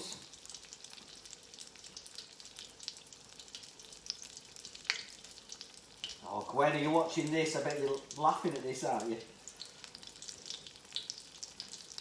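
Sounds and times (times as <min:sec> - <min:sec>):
hot oil sizzling and crackling: 0:00.0 - 0:12.0.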